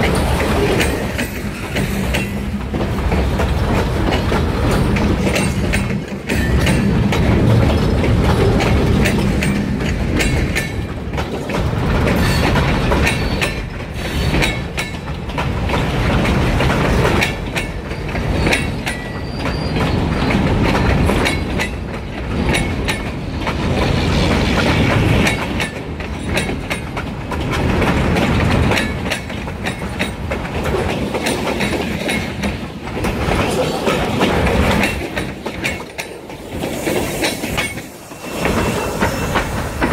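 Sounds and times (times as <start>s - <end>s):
freight train passing: 0.0s - 39.9s
wheels clacking over rail joints: 0.0s - 39.9s.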